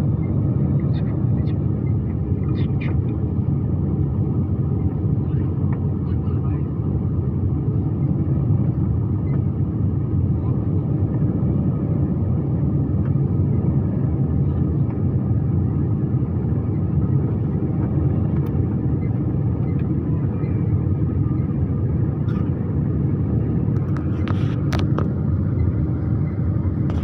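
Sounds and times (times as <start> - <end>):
jet engine rumbling: 0.0 - 27.0.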